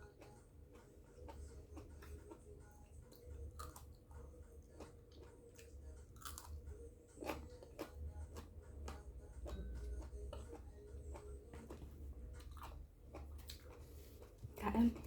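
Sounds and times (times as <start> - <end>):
chewing crisp fruit: 0.0 - 15.0.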